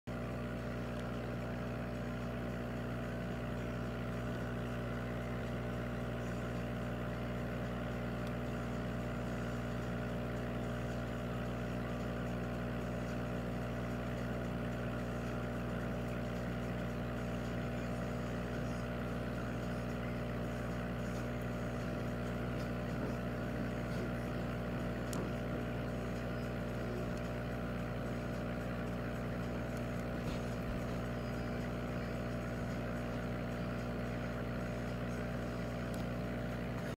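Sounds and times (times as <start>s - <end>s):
aquarium air pump humming: 0.1s - 36.9s.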